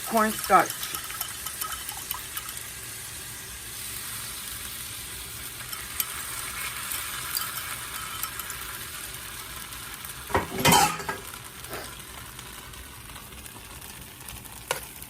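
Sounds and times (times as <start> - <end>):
food sizzling on a grill: 0.0 - 15.0.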